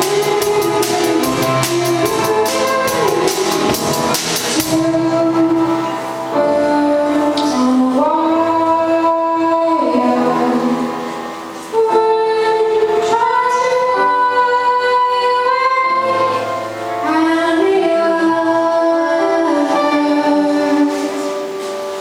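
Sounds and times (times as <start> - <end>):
woman singing: 0.0 - 11.0, 11.6 - 21.5
musical accompaniment: 0.0 - 22.0.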